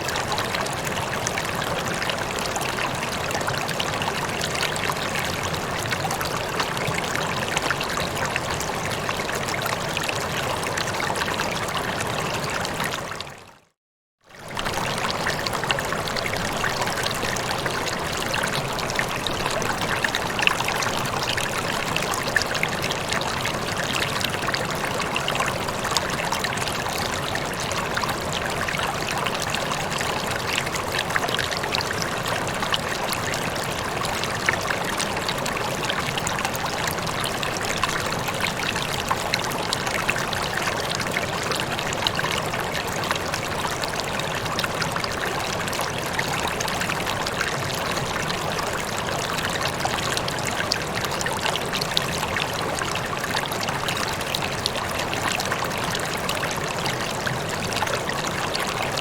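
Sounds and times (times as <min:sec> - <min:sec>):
running water babbling: 0:00.0 - 0:13.7, 0:14.3 - 0:59.0.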